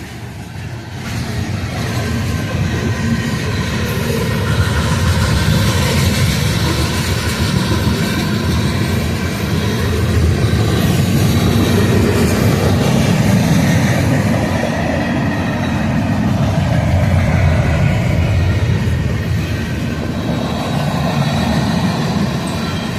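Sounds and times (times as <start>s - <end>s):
freight train rumbling past: 0.0s - 22.9s.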